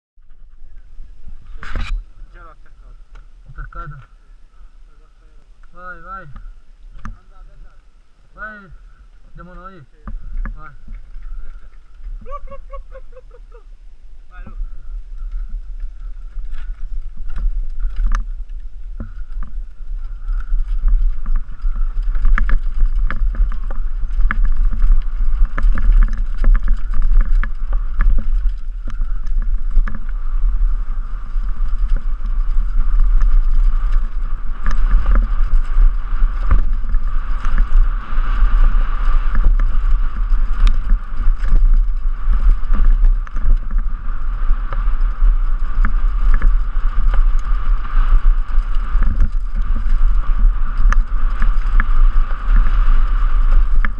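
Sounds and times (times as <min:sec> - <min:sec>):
bike rattling on rough trail: 0:00.2 - 0:53.9
wind rumbling on microphone: 0:00.2 - 0:53.9.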